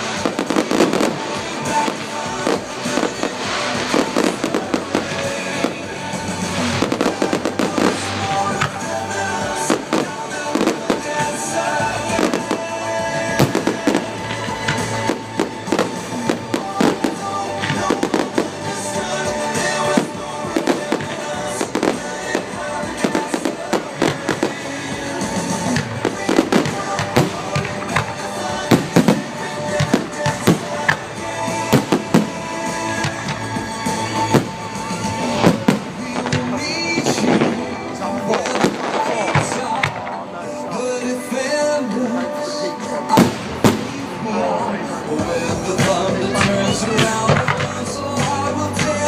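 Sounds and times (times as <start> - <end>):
fireworks bursting: 0.0 - 49.0
music: 0.0 - 49.0.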